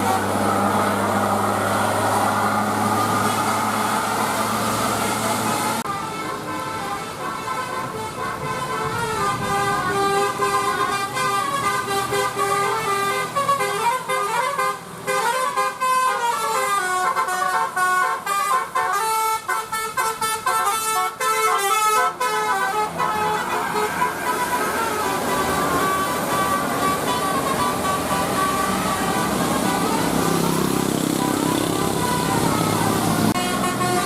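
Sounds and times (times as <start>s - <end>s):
bus horn playing a tune: 0.0s - 34.0s.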